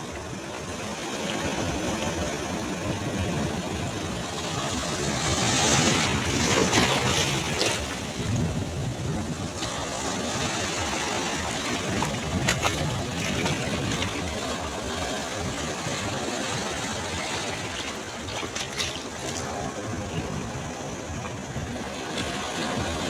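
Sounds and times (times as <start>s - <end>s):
waves washing onto beach: 0.0s - 23.0s.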